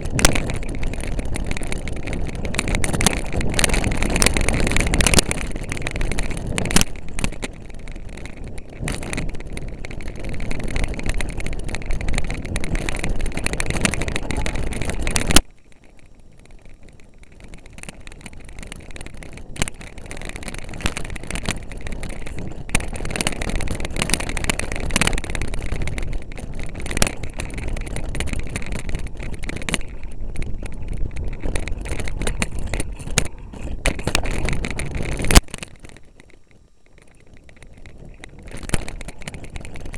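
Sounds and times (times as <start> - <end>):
bike rattles and knocks: 0.0 - 39.9
bike tyres rumbling: 0.0 - 39.9
wind on microphone: 0.0 - 39.9.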